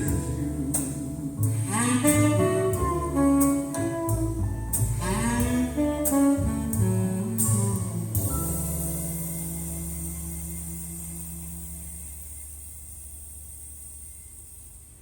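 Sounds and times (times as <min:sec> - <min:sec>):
saxophone melody: 0:00.0 - 0:12.6
bass line: 0:00.0 - 0:14.7.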